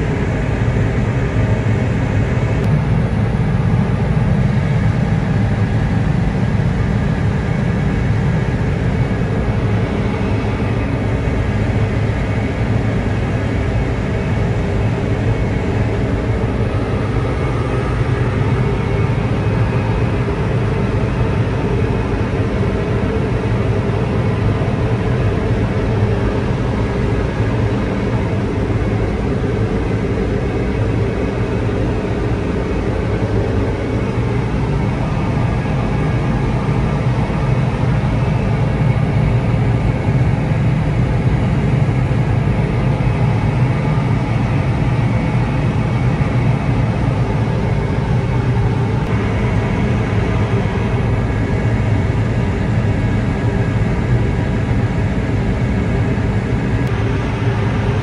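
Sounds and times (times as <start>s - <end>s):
harvester engine drone: 0.0s - 58.0s.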